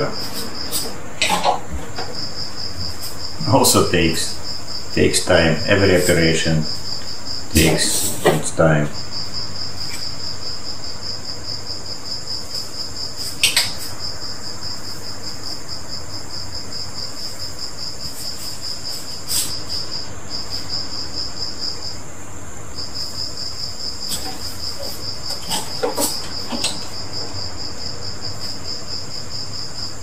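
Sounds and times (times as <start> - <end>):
insect chirping: 0.0 - 30.0.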